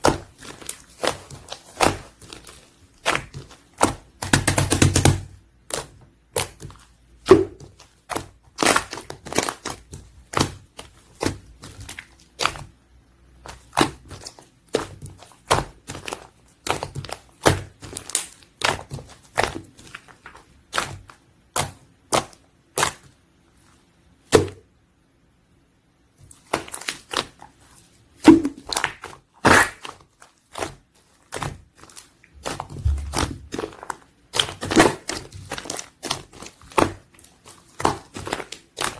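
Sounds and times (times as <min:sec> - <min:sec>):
slime being squished: 0:00.0 - 0:24.7, 0:26.2 - 0:38.9.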